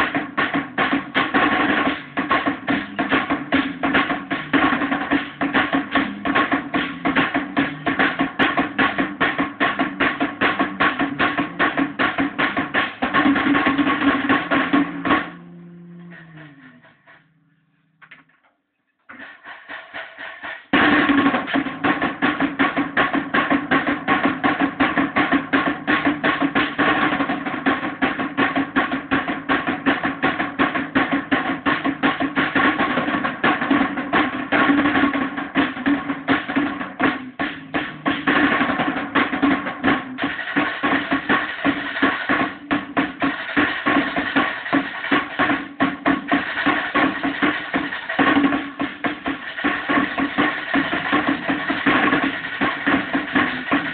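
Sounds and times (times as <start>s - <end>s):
drum kit playing: 0.0s - 17.4s, 19.1s - 53.9s.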